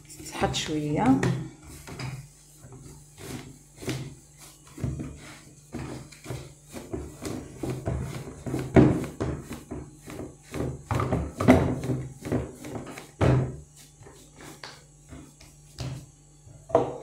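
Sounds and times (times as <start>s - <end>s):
hands kneading dough in bowl: 0.0s - 16.2s.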